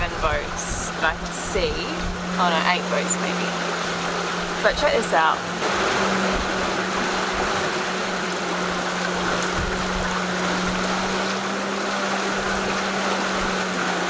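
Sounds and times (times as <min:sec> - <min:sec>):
low hum: 0:00.0 - 0:14.0
rushing water: 0:00.0 - 0:14.0
wind: 0:00.0 - 0:14.0.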